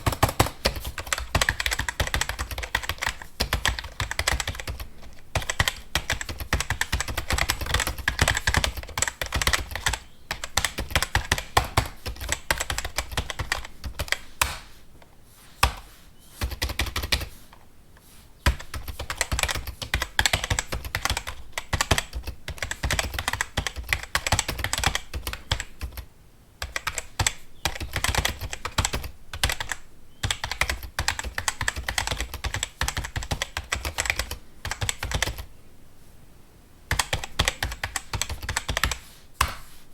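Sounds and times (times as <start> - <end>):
fast typing on computer keyboard: 0.0 - 14.6, 16.4 - 17.3, 18.4 - 35.5, 36.9 - 39.0.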